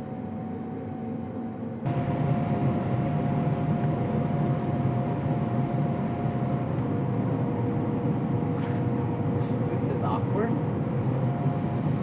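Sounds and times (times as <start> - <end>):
engine and machinery drone: 0.0 - 12.0
steady whine: 0.0 - 12.0.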